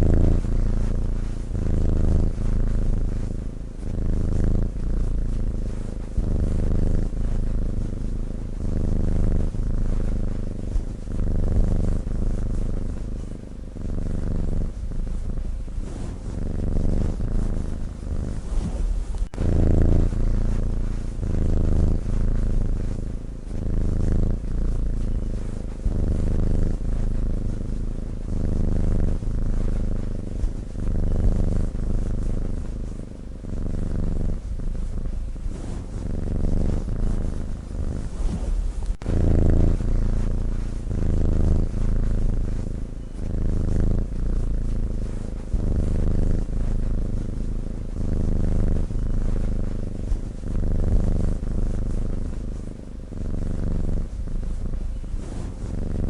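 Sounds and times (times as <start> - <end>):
sleeping cat purring: 0.0 - 56.0.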